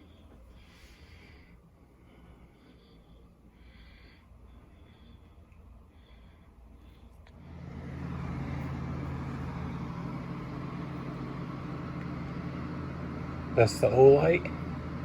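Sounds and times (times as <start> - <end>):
exhaust fan humming: 0.0 - 15.0.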